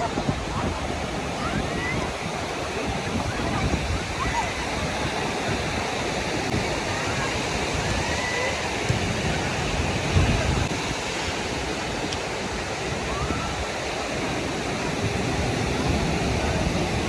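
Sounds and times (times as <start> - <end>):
faint voices: 0.0 - 17.0
sea surf rushing: 0.0 - 17.0
wind: 0.0 - 17.0.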